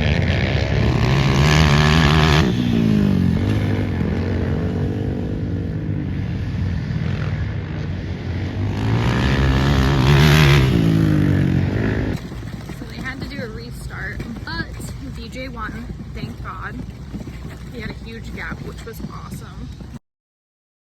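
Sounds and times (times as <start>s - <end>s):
racing quad engines revving past: 0.0s - 20.0s.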